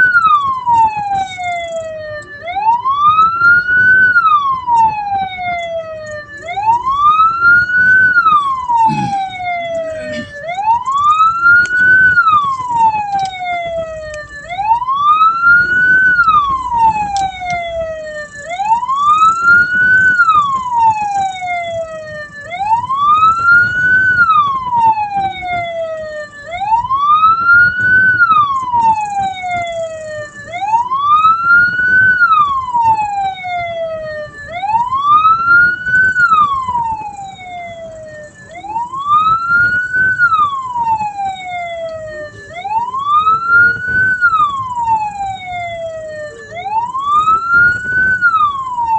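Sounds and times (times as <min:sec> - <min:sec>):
electronic wail siren: 0:00.0 - 0:48.9.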